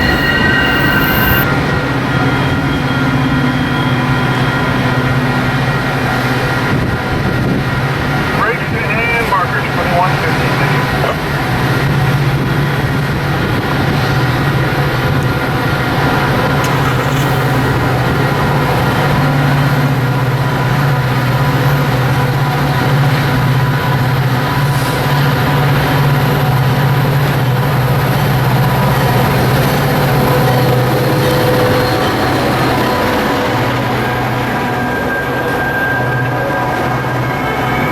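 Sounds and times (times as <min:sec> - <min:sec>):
diesel locomotive drone: 0:00.0 - 0:37.9.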